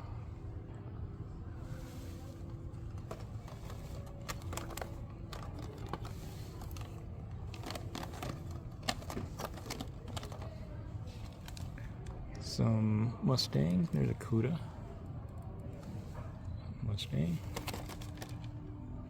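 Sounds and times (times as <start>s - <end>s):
low store ambience hum: 0.0s - 19.0s.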